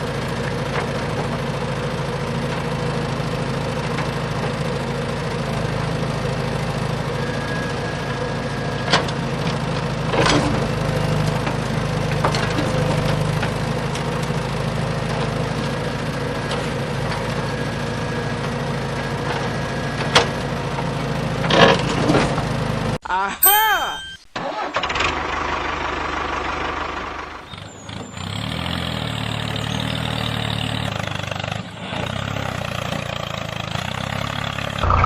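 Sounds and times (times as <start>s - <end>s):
small engine idling: 0.0s - 23.0s, 24.6s - 35.0s.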